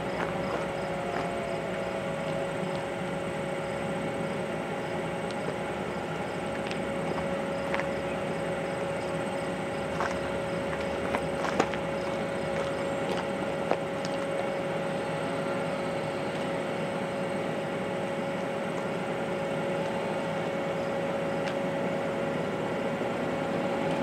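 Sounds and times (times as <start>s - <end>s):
insect chirping: 0.0s - 18.4s, 20.0s - 21.4s
diesel locomotives rumbling: 0.0s - 24.0s
steady hum: 0.0s - 24.0s.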